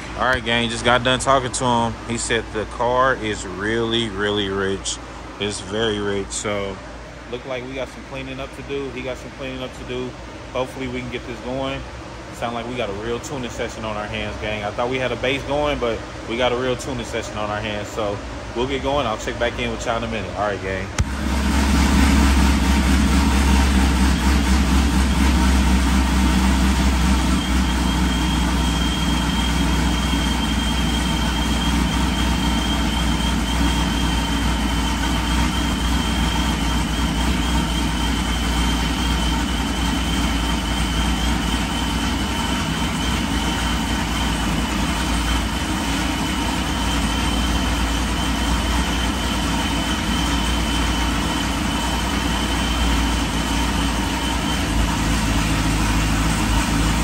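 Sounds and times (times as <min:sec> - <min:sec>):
car engine idling: 0:00.0 - 0:57.0
faint high whine: 0:00.0 - 0:57.0.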